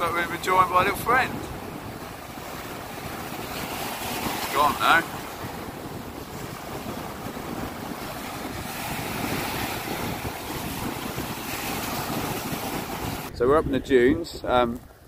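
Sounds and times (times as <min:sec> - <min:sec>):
waves breaking on beach: 0:00.0 - 0:13.3
wind on microphone: 0:00.0 - 0:15.0.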